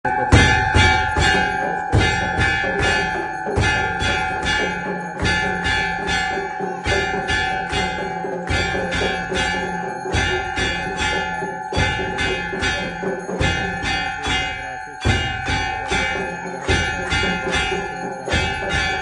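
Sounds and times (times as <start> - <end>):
temple bells ringing: 0.0 - 19.0.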